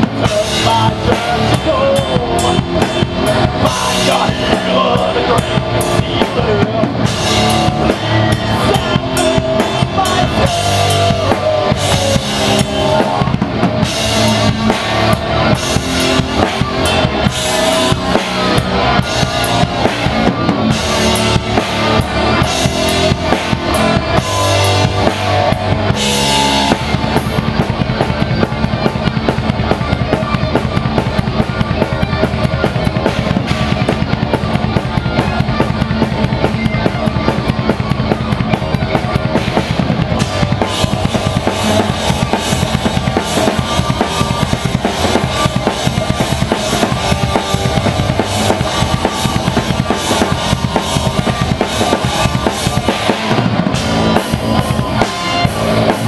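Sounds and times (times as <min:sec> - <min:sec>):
drum kit with cymbal crashes: 0:00.0 - 0:56.0
metal band playing: 0:00.0 - 0:56.0.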